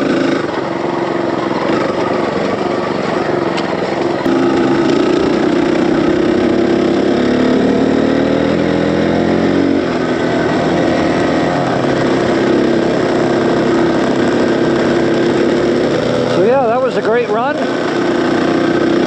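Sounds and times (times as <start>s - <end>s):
dirt bike engine: 0.0s - 19.0s
wind and road noise: 0.0s - 19.0s.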